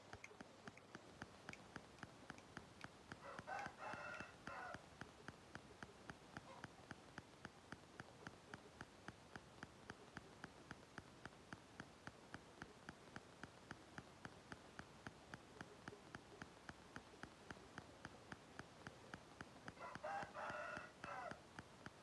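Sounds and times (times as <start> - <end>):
faint even ticking: 0.0 - 22.0.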